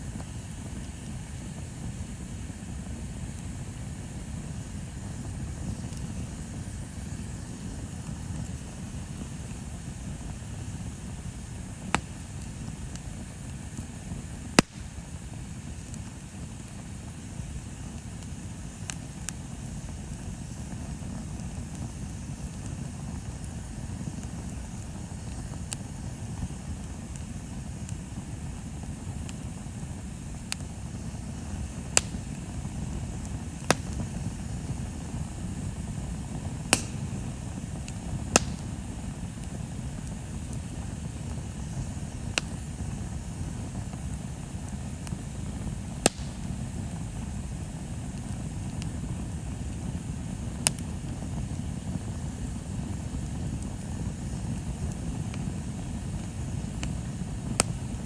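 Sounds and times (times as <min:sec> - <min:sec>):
bonfire pops and crackles: 0:00.0 - 0:58.0
fire low rushing noise: 0:00.0 - 0:58.0.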